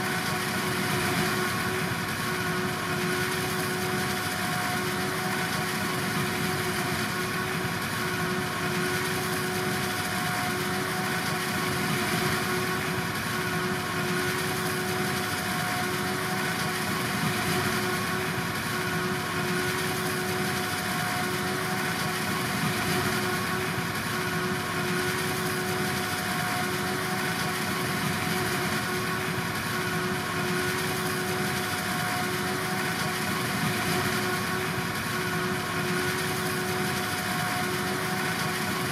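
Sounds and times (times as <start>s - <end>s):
harvest machinery engine drone: 0.0s - 38.9s
steady machine whine: 0.0s - 38.9s.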